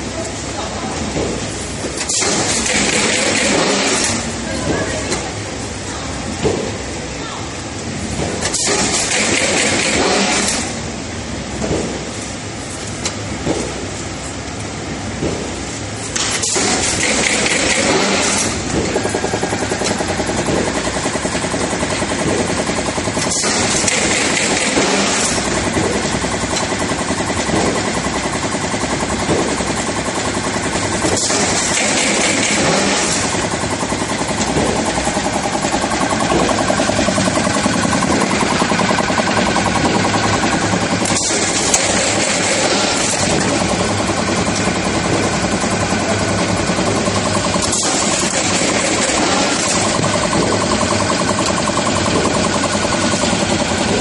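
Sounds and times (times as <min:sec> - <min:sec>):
stitching machine clattering: 0:00.9 - 0:05.5, 0:08.1 - 0:10.8, 0:15.4 - 0:54.0.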